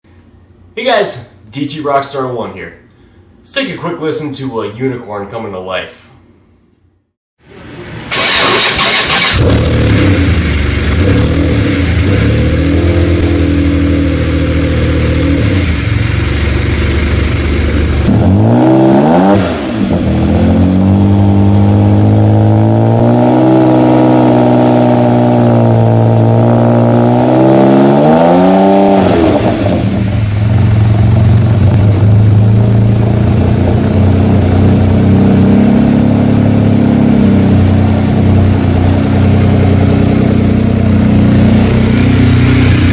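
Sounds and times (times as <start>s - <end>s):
car engine idling and revving: 7.6s - 42.9s.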